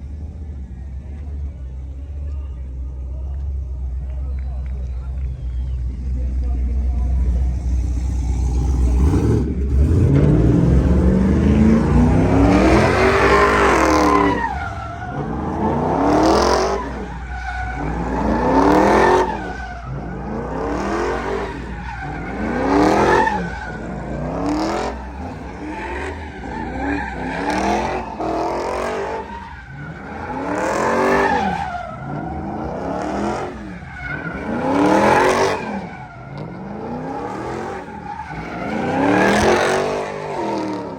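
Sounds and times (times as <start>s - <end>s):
tires squealing: 4.1s - 40.9s
truck engine revving: 4.4s - 40.9s.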